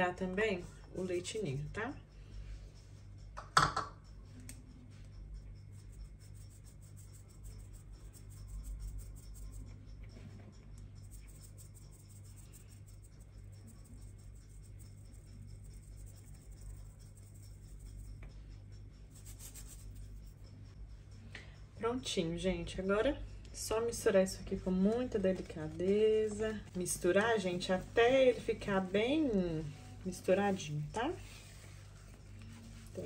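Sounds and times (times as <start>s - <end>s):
low steady hum: 0.0s - 33.0s
sieve scratchy ticking: 4.0s - 33.0s.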